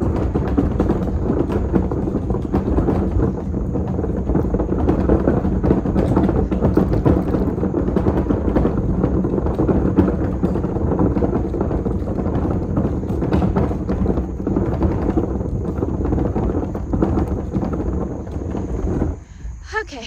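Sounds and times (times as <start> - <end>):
footsteps on gravel: 0.0 - 19.2
trash can wheels rumbling on gravel: 0.0 - 20.0.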